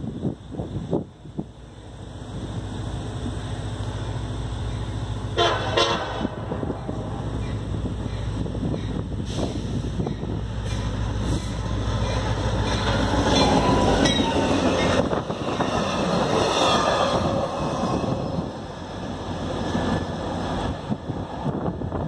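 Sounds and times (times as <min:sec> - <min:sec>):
diesel locomotive engine rumble: 0:00.0 - 0:22.0
wheels rattling on rails: 0:00.0 - 0:22.0.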